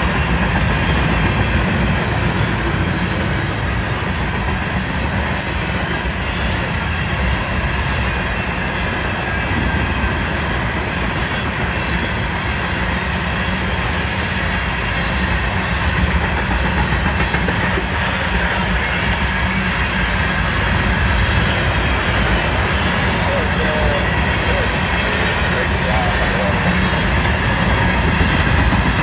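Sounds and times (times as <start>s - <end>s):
freight train cars rolling past: 0.0s - 29.0s
wheels clickety-clack on rails: 0.0s - 29.0s.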